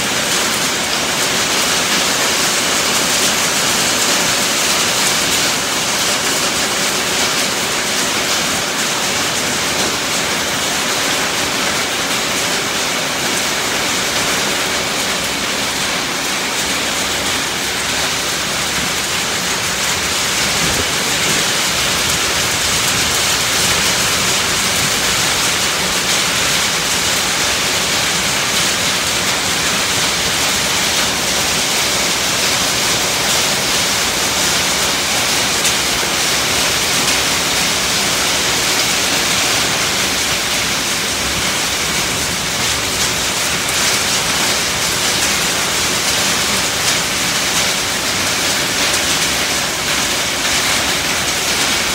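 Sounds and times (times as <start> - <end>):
rain on a tin roof: 0.0 - 51.9.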